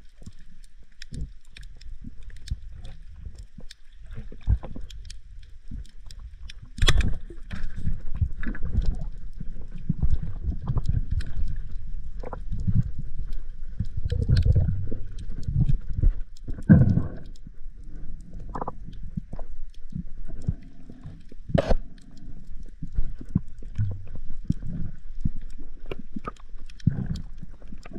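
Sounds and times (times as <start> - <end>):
small scattered clicks: 0.0 - 27.9.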